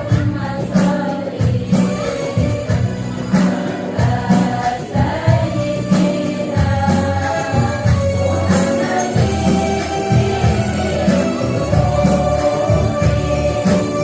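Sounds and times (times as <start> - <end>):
percussion strikes: 0.0 - 14.0
women's choir singing: 0.0 - 14.0.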